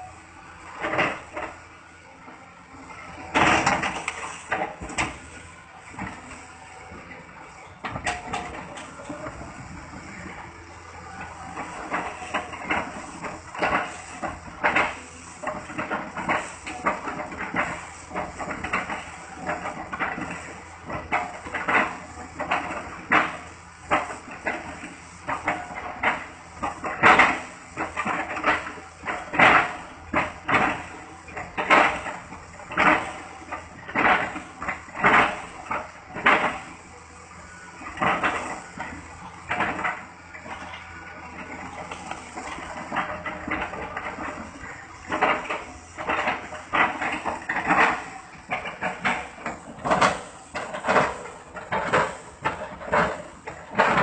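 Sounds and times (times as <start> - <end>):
diesel engine running: 0.0 - 54.0
excavator chopping wood: 2.7 - 5.4, 7.8 - 9.4, 11.4 - 37.0, 37.8 - 54.0.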